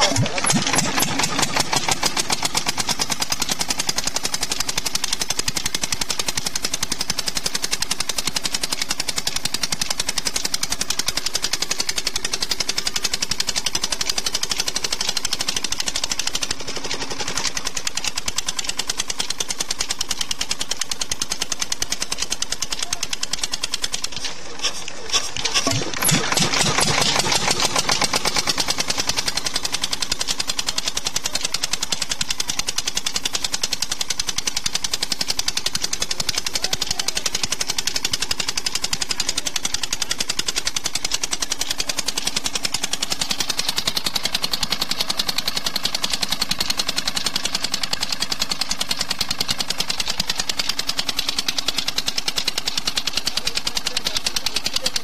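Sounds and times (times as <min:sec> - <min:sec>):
diesel engine knocking: 0:00.0 - 0:55.0.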